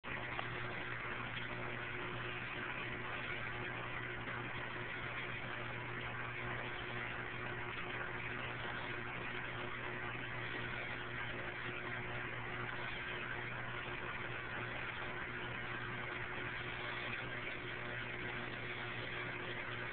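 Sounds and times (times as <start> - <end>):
aquarium pump humming: 0.0 - 19.9.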